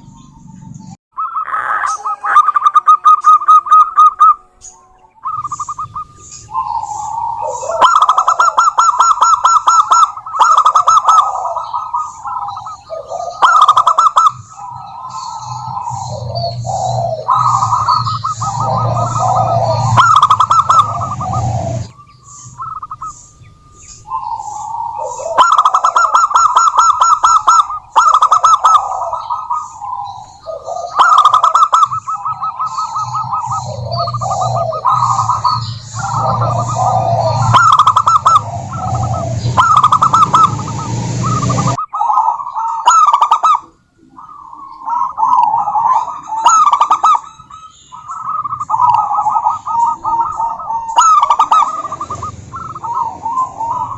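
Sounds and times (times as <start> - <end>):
doves cooing: 0.0 - 53.9
high chirping: 0.0 - 53.9.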